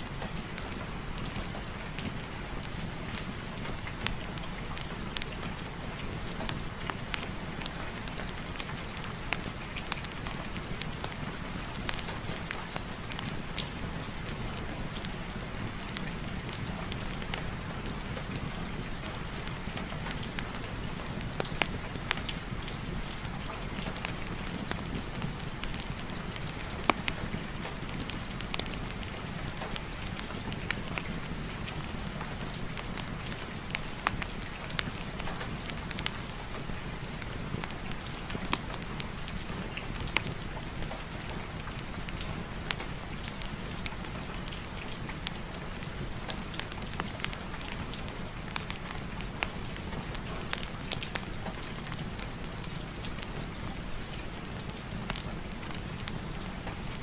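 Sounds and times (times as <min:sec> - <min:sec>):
fireplace fire crackling: 0:00.0 - 0:57.0
steady rain: 0:00.0 - 0:57.0.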